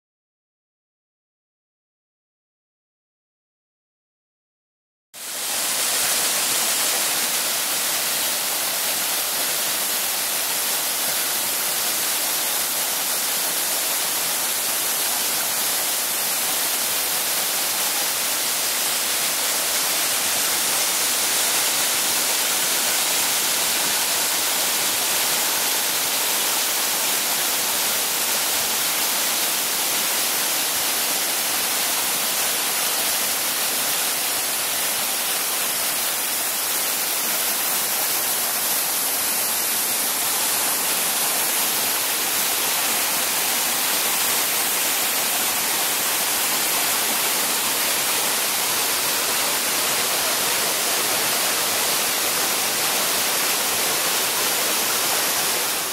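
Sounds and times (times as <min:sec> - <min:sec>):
waterfall rushing into pool: 0:05.2 - 0:55.9.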